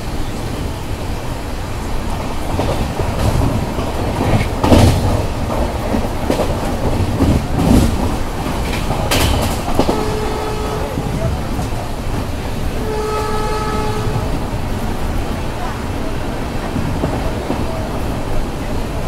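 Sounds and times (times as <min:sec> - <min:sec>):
train running rumble: 0:00.0 - 0:19.0
wheels clattering over rail joints: 0:01.8 - 0:19.0.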